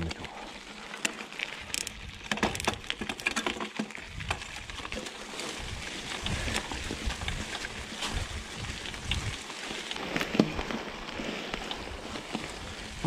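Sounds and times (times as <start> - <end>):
bike tyres rustling leaves: 0.0 - 13.0
twigs crackling and snapping: 0.0 - 13.0.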